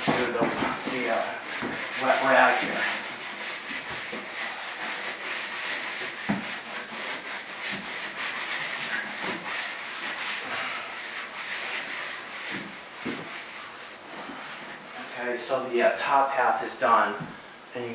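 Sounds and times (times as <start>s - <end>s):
cloth rag wiping surface: 0.0s - 16.7s.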